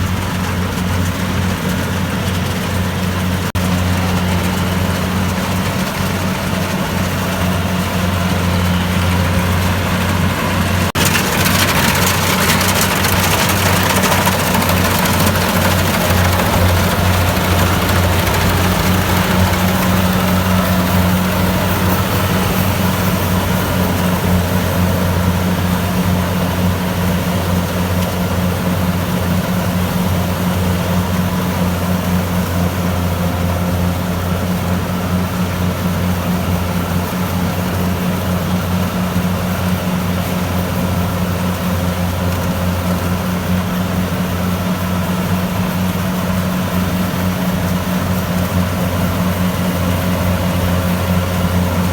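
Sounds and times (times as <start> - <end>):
combine harvester diesel engine droning: 0.0 - 51.9.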